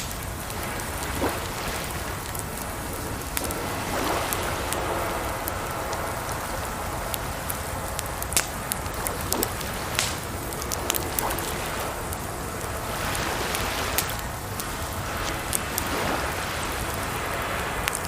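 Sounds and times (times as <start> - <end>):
water rushing: 0.0 - 18.0
wood fire crackling and popping: 0.0 - 18.0.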